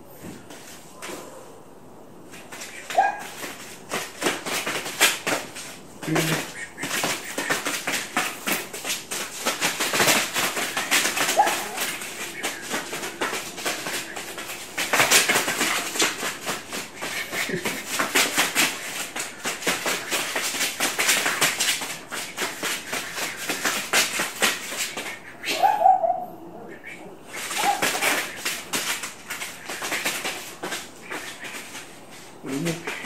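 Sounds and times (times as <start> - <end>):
dog claws scrabbling on foam mat: 2.3 - 25.2, 27.4 - 33.0.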